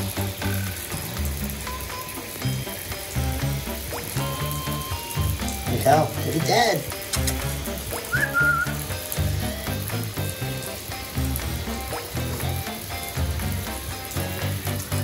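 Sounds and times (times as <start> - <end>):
background music with bass line: 0.0 - 15.0
shower spray hissing: 0.0 - 15.0.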